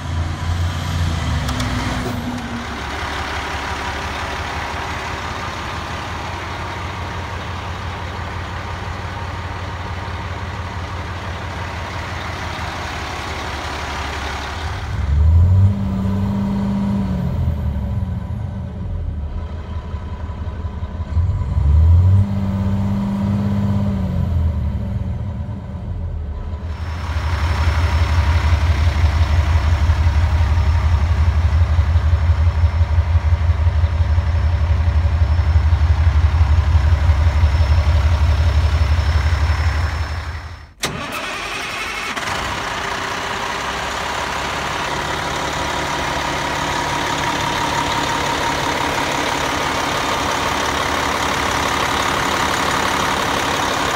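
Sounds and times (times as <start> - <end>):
engine revving: 0.0 - 5.0, 12.4 - 20.3, 20.9 - 53.9
diesel truck engine idling: 0.0 - 53.9.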